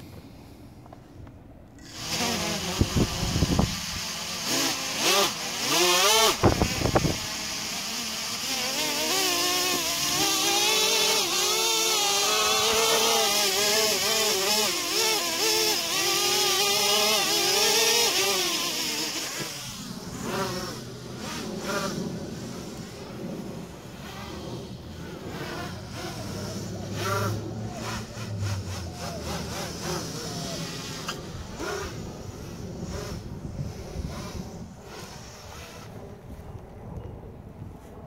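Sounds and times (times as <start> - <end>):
quadcopter propellers whining: 0.0 - 37.3.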